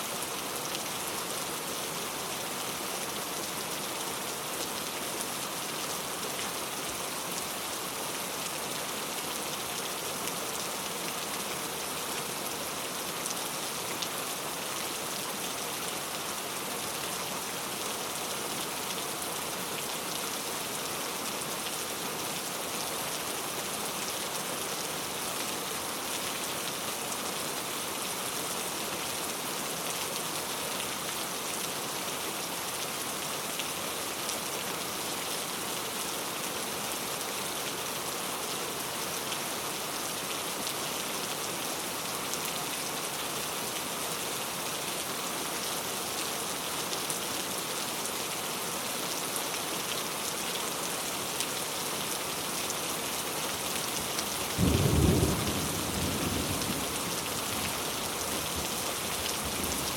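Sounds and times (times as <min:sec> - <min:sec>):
heavy rain on hard surfaces: 0:00.0 - 0:59.9.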